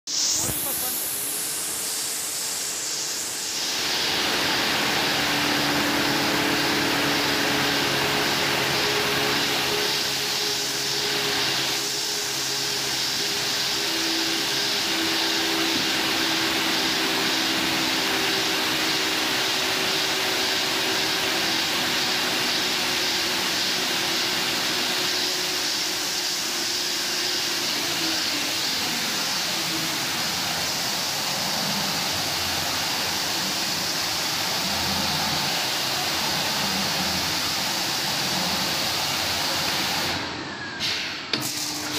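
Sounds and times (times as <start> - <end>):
machine running with steady hiss: 0.1 - 41.9.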